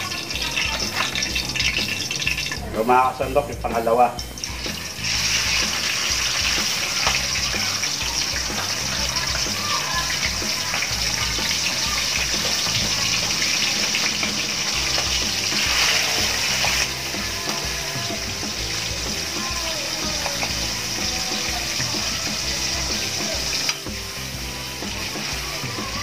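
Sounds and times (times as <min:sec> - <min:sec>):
fish sizzling in frying oil: 0:00.0 - 0:26.0.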